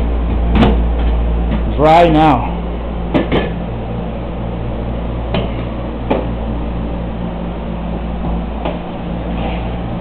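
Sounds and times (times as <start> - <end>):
air mover fans humming: 0.0 - 10.0.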